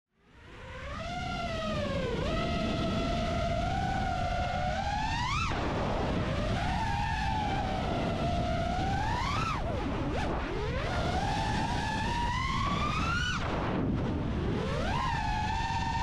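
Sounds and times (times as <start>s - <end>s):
propeller and wind noise: 0.2s - 16.0s
drone motors whining: 0.4s - 16.0s.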